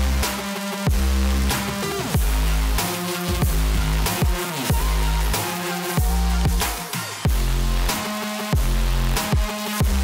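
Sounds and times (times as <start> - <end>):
electronic dance music: 0.0 - 10.0
heavy deep bass line: 0.0 - 10.0.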